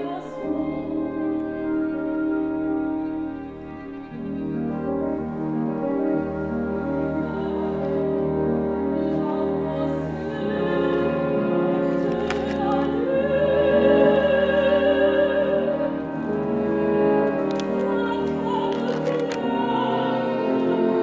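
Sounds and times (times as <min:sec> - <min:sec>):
chamber ensemble playing: 0:00.0 - 0:21.0
soprano singing: 0:00.0 - 0:21.0.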